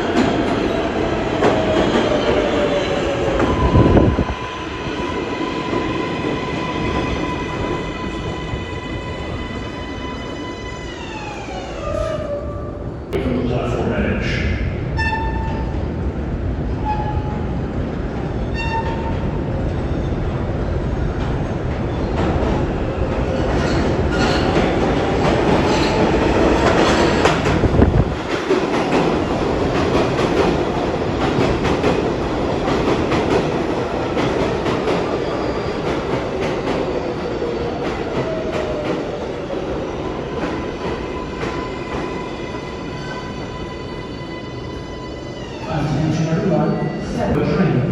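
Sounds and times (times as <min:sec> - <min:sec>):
subway train rumble: 0:00.0 - 0:47.9.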